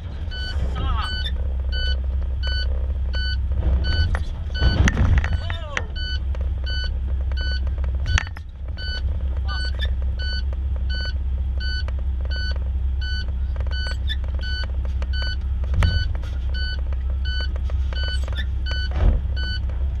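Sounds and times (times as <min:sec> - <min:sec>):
engine idling rumble: 0:00.0 - 0:20.0
vehicle alarm beeping: 0:00.2 - 0:19.7.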